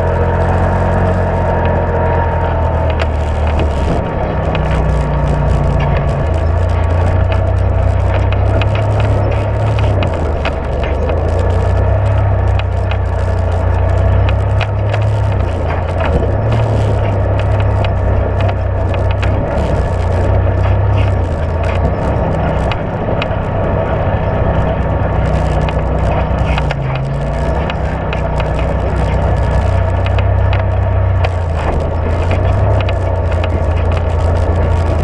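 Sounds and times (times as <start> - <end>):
chassis knocks and rattles: 0.0 - 35.0
tyres crunching over gravel: 0.0 - 35.0
utility vehicle engine running: 0.0 - 35.0.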